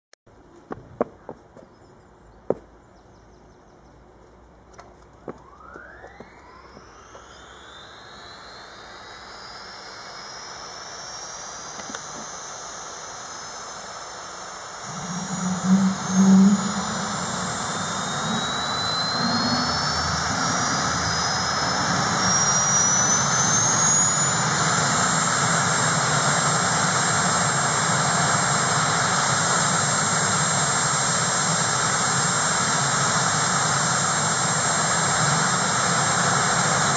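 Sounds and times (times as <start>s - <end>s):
deeper running sound: 4.8s - 36.9s
helicopter engines whining: 5.3s - 36.9s.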